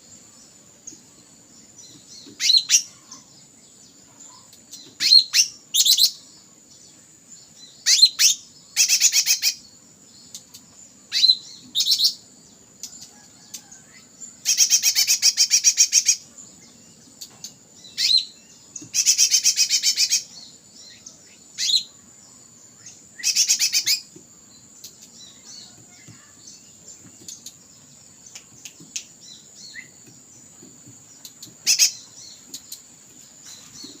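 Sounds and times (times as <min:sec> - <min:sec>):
birds trilling and chirping: 0:00.0 - 0:34.0.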